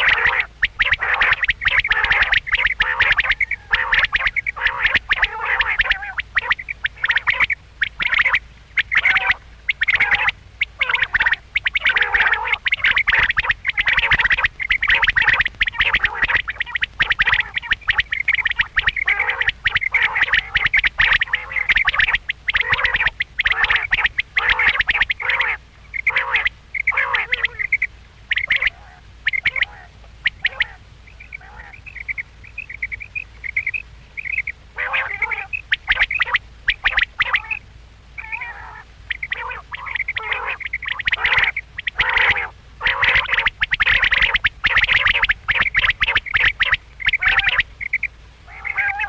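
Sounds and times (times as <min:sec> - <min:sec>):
quail calling: 0:00.0 - 0:49.0.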